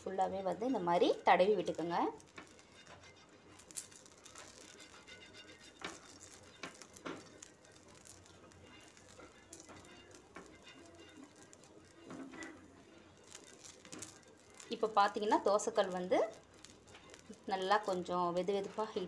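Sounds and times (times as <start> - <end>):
spoon scraping griddle: 0.0 - 19.0.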